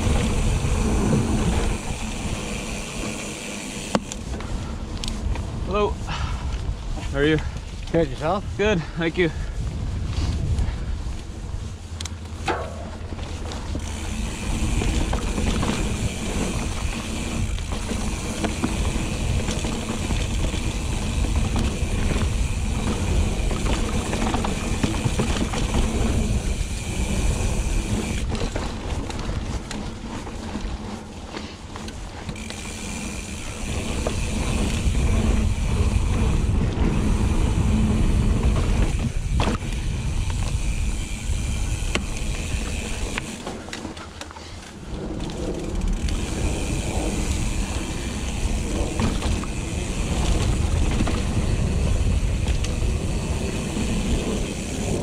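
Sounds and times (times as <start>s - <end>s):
bike hub freewheel buzzing: 0.0s - 6.7s, 10.1s - 55.0s
bike tyres rumbling on dirt: 0.0s - 55.0s.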